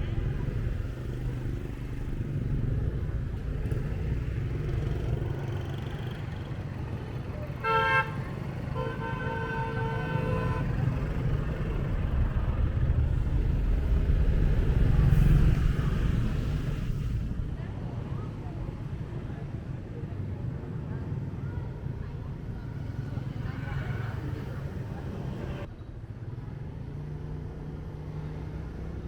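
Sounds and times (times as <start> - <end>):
motorbike engine and road rumble: 0.0 - 29.0.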